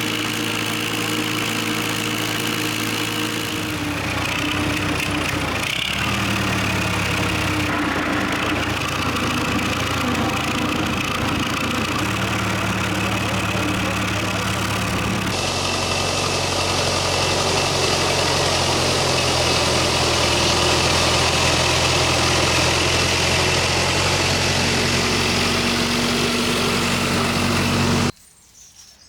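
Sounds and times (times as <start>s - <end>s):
vehicle engine humming: 0.0s - 28.2s.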